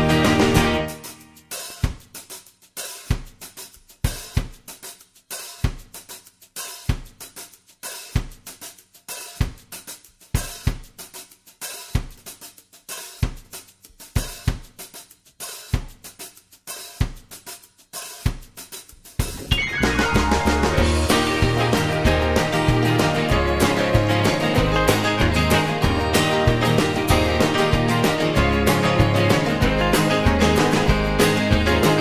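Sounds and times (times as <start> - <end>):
drum-kit beat: 0.0 - 32.0.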